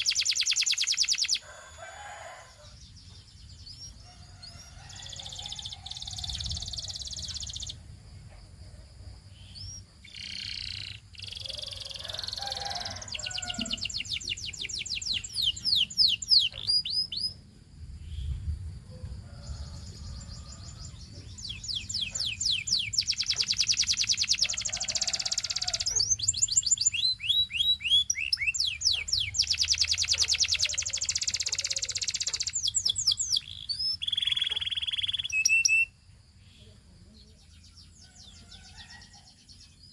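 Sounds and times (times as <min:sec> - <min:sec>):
canary singing trills: 0:00.0 - 0:07.8, 0:09.3 - 0:18.4, 0:19.3 - 0:39.9.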